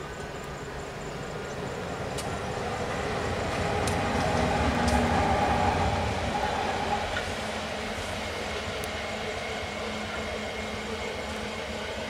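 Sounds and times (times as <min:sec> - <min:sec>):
hopper cars rolling on rails: 0:00.0 - 0:12.0
locomotive engines rumbling: 0:00.0 - 0:12.0.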